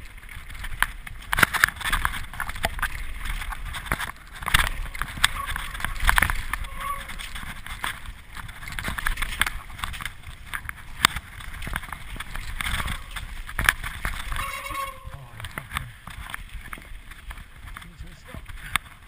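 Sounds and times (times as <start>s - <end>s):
bike rattling and knocking: 0.0s - 19.0s.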